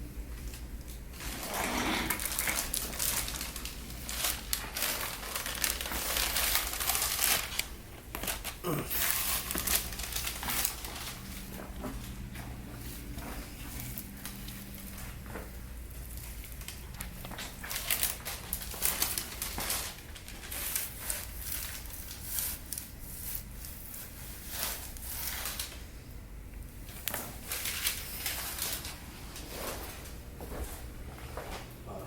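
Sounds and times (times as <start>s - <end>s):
hands rustling and crinkling: 0.3s - 26.0s, 26.8s - 31.8s.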